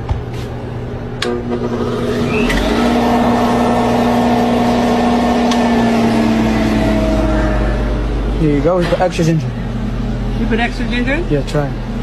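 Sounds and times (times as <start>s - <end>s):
juicer motor hum: 1.0s - 12.0s.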